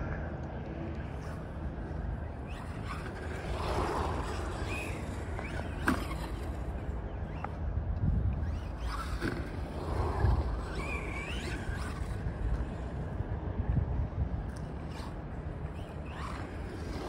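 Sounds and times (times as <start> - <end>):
wind rumble on microphone: 0.0 - 17.0
rc truck electric motor whine: 1.1 - 13.2, 14.5 - 17.0.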